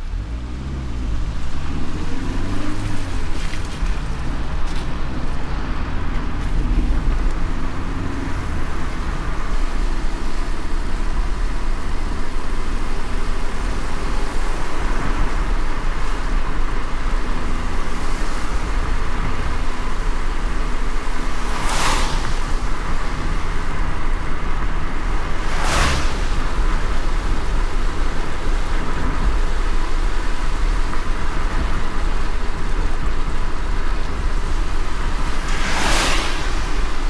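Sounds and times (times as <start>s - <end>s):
road rumble with tyre hiss: 0.0s - 37.0s.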